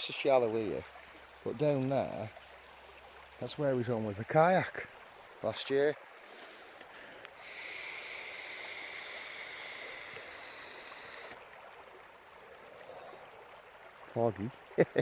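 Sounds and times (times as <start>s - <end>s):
river water over stones: 0.0s - 15.0s.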